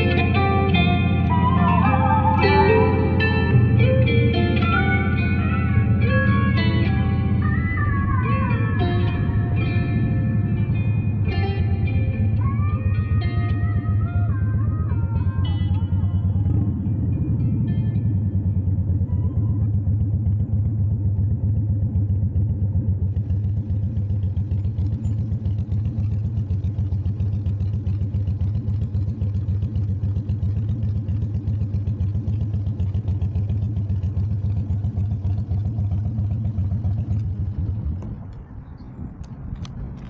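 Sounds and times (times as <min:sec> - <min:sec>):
motorcycle engine throbbing and idling: 0:00.0 - 0:40.0.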